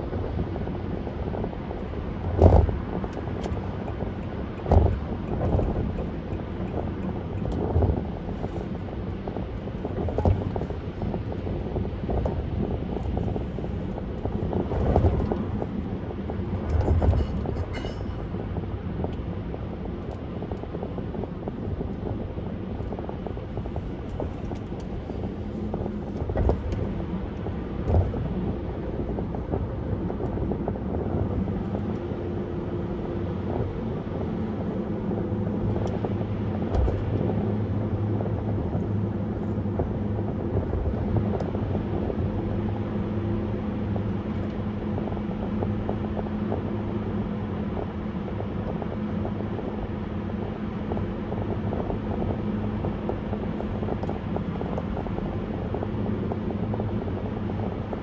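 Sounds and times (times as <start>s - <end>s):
road and engine rumble: 0.0s - 58.0s
wind noise: 0.0s - 58.0s.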